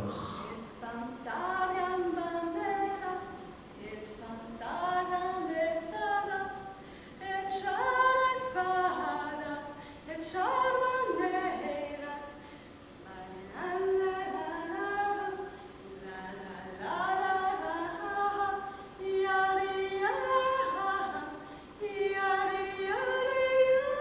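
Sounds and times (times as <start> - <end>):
woman singing unaccompanied: 0.2 - 24.0.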